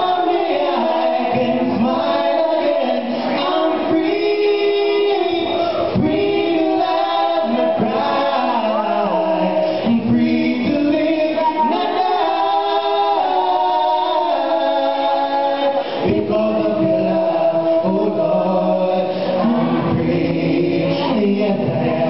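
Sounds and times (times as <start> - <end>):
choir singing gospel: 0.0 - 22.0
male duet singing: 0.0 - 22.0.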